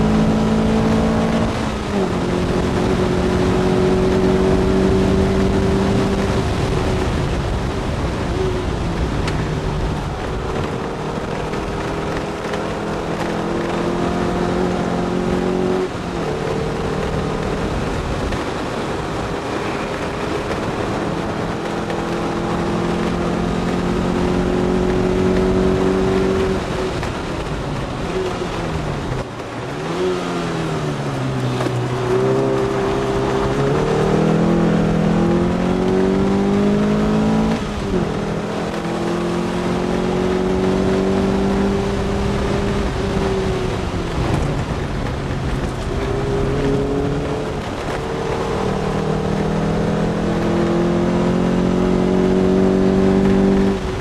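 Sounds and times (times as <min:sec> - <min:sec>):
car engine pulling hard: 0:00.0 - 0:54.0
road and wind noise: 0:00.0 - 0:54.0.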